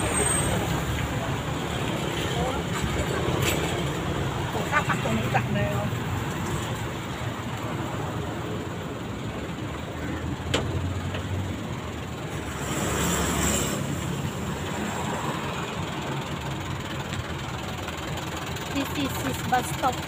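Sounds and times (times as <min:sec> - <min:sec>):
motor vehicles running: 0:00.0 - 0:20.0.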